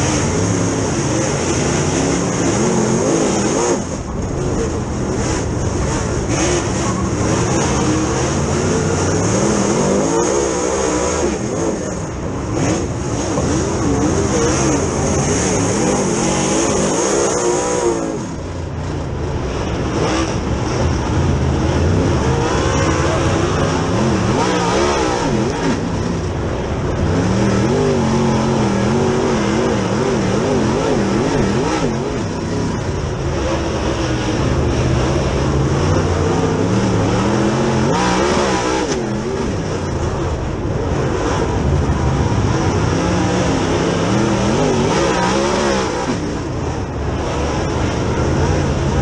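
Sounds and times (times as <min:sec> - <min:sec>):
race car engine running hard: 0:00.0 - 0:49.0.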